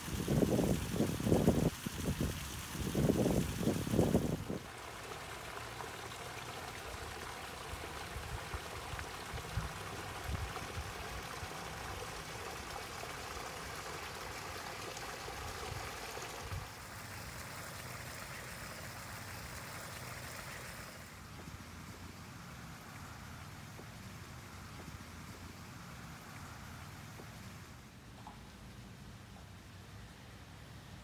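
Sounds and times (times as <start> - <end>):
fountain water splashing: 0.0 - 30.3.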